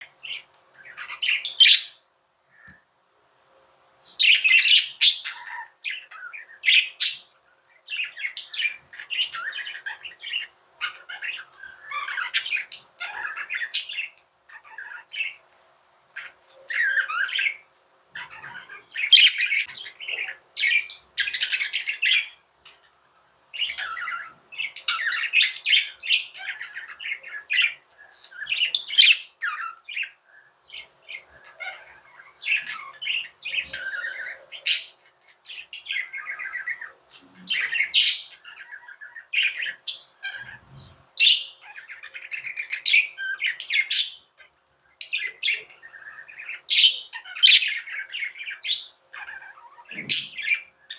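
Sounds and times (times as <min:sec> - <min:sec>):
budgerigars chirping and warbling: 0:00.0 - 0:02.8, 0:04.0 - 0:50.9.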